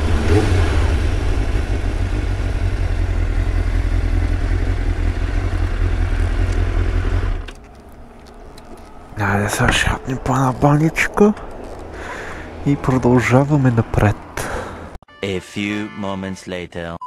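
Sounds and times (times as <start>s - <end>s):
motorcycle engine: 0.0s - 15.0s.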